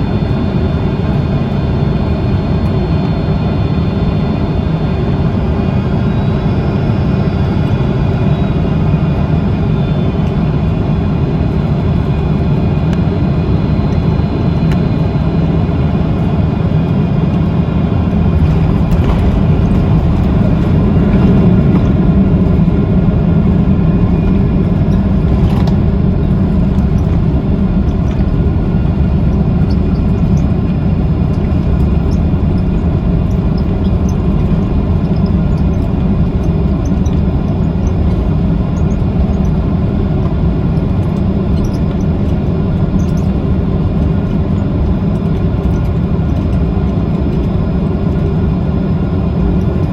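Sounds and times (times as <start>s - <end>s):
jet airliner rumble: 0.0s - 49.9s.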